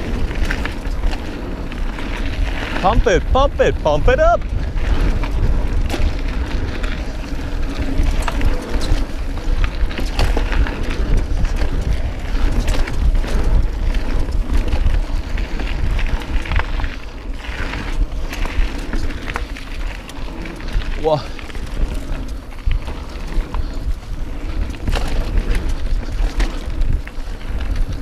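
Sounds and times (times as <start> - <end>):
bike clicking and rattling: 0.0 - 28.0
bike tyres rolling on dirt: 0.0 - 28.0
wind buffeting microphone: 0.0 - 28.0.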